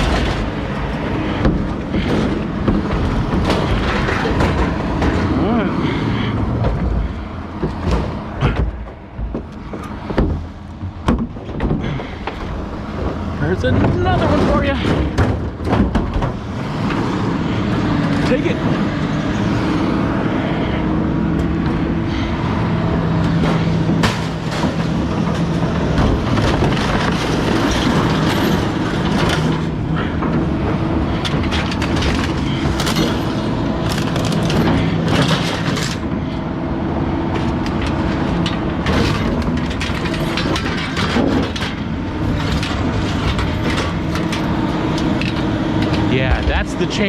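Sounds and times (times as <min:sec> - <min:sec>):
scrap metal clanking and banging: 0:00.0 - 0:36.5, 0:37.2 - 0:47.0
heavy machinery engine running: 0:00.0 - 0:47.0.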